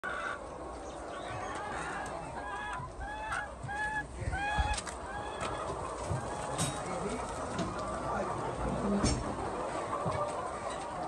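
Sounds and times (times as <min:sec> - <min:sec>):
hens squawking: 0:00.0 - 0:11.0.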